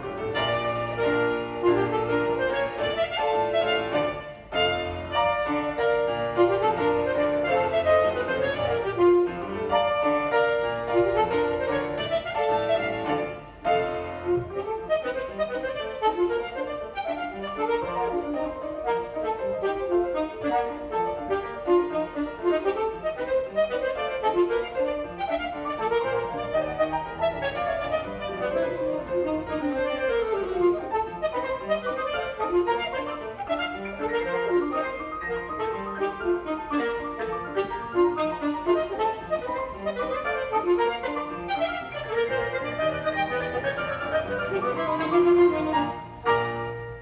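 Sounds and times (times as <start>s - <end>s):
piano accompaniment: 0.0s - 47.0s
saxophone melody: 0.0s - 47.0s.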